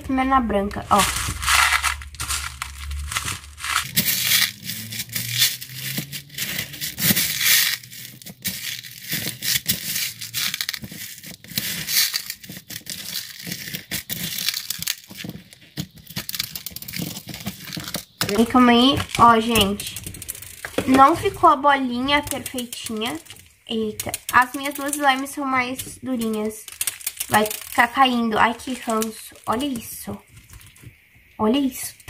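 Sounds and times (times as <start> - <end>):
bead slime crunching and crackling: 0.1 - 32.0.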